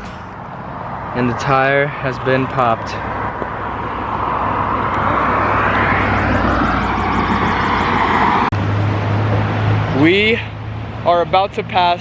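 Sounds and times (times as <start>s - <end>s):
motor vehicle traffic roar: 0.0s - 12.0s.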